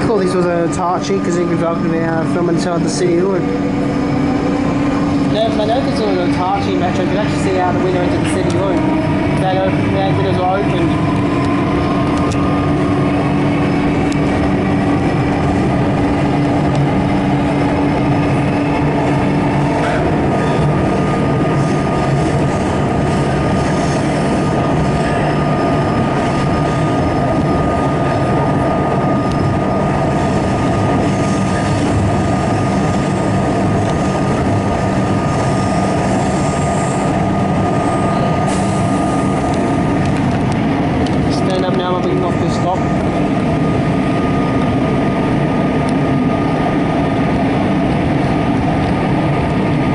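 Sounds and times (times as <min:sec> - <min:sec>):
steady whine: 0:00.0 - 0:49.9
train wheels rumbling: 0:00.0 - 0:49.9.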